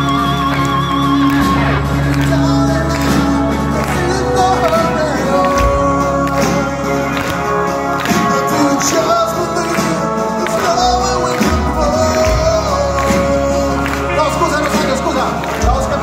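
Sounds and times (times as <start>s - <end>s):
live heavy metal band: 0.0s - 16.0s
person singing: 0.0s - 16.0s.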